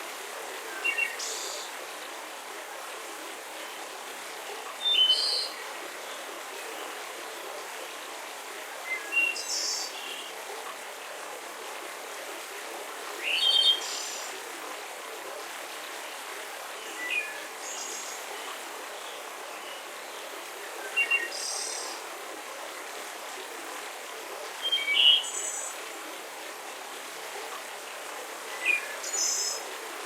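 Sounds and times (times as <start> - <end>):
forest ambience hiss: 0.0 - 30.0.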